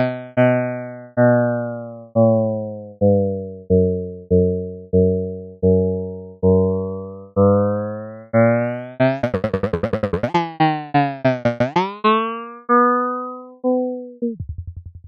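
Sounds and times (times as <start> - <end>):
synthesized keyboard notes: 0.0 - 14.4.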